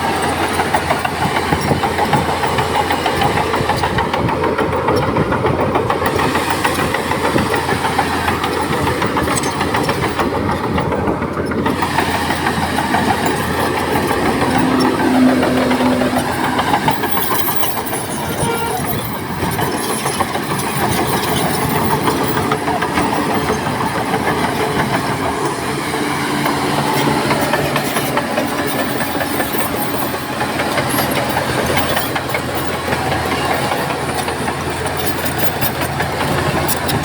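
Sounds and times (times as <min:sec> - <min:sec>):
diesel engine running under load: 0:00.0 - 0:37.0
steel tracks clanking: 0:00.0 - 0:37.0.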